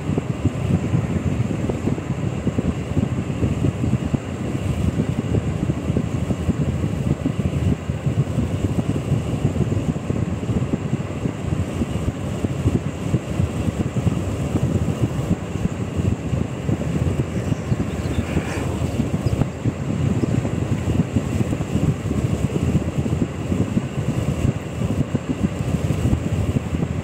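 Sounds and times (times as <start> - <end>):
road and wind noise in car: 0.0 - 27.0
wind buffeting microphone: 0.0 - 27.0.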